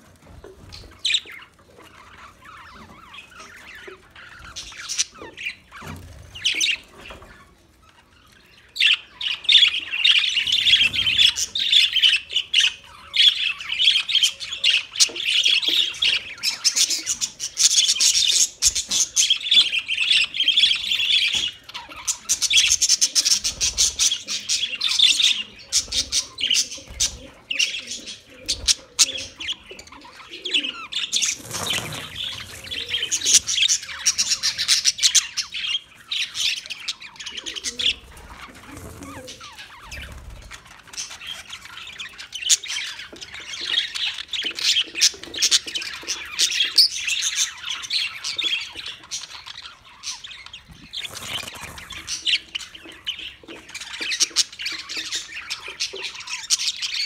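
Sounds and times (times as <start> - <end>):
budgerigars chattering and chirping: 0.3 - 57.0.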